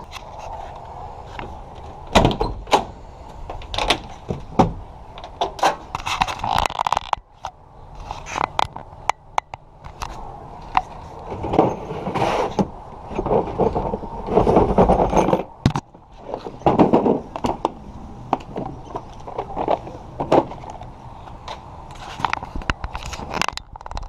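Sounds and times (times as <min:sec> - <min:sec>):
rustling and scraping: 0:00.0 - 0:09.1, 0:09.8 - 0:24.0.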